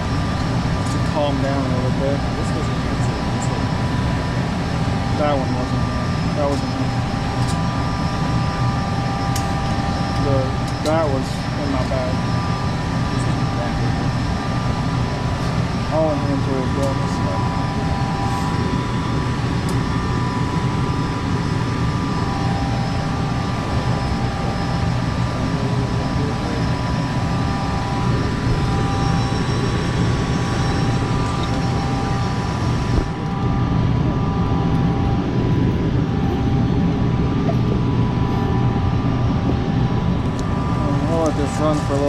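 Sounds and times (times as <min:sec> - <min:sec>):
gas furnace humming: 0:00.0 - 0:42.0.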